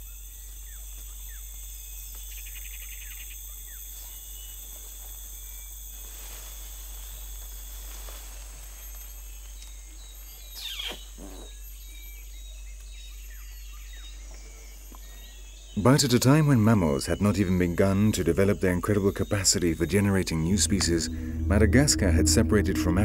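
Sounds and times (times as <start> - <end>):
pulsing insect trill: 0.0 - 23.0
steady insect drone: 0.0 - 23.0.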